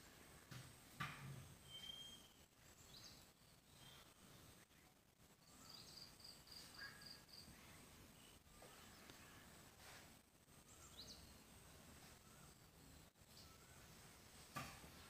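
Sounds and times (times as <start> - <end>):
faint bird chirps: 1.6 - 9.7, 10.6 - 15.0.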